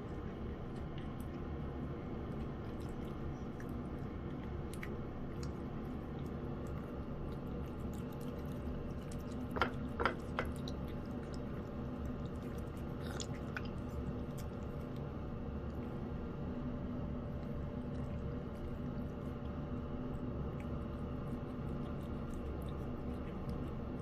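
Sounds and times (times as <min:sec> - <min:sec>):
cat chewing wet food: 0:00.0 - 0:24.0
low hum: 0:00.0 - 0:24.0.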